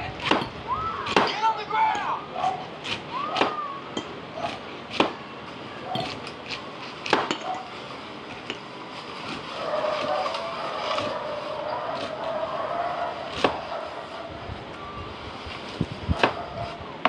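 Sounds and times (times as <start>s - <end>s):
wavering sustained background sound: 2.2s - 16.1s.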